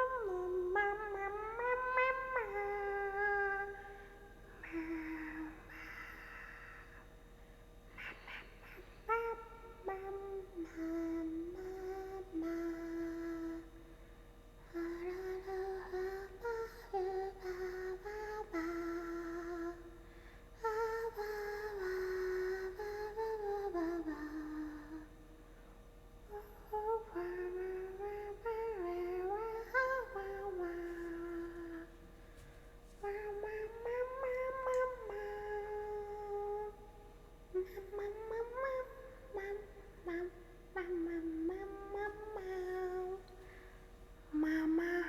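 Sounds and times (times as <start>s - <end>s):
woman humming: 0.0s - 7.1s, 7.9s - 13.9s, 14.6s - 20.0s, 20.6s - 25.2s, 26.3s - 32.0s, 33.0s - 43.7s, 44.3s - 45.0s.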